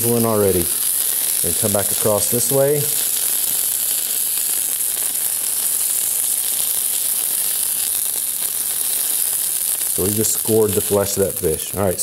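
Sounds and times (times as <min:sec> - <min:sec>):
fish fillet sizzling in oil: 0:00.0 - 0:12.0.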